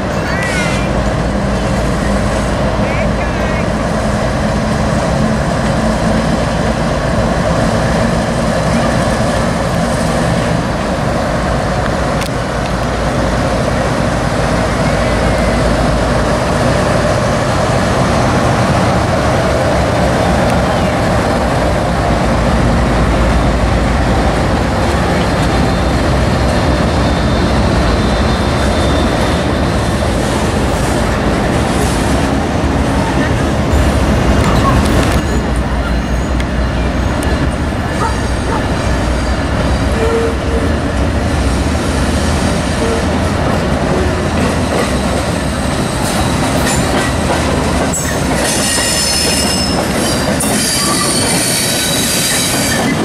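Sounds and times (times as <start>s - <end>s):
diesel locomotives running: 0.0s - 53.0s.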